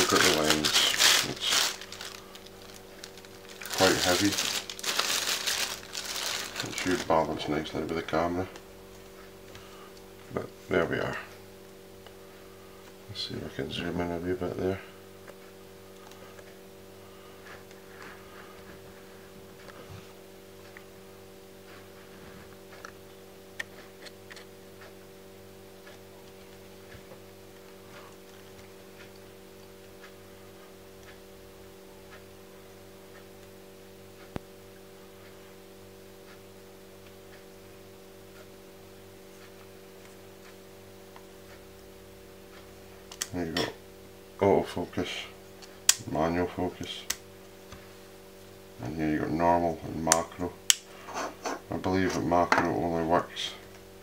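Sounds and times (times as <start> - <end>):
steady electrical hum: 0.0 - 54.0.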